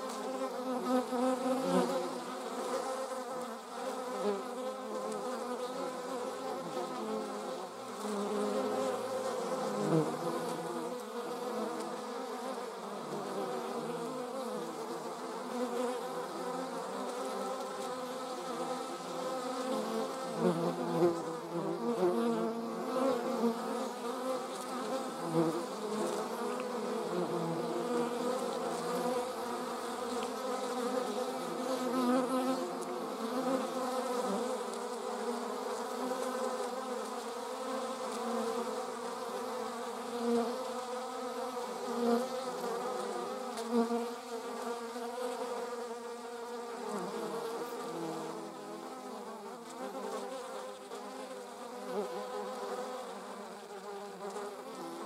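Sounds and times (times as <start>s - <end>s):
wasp buzzing: 0.0s - 55.0s.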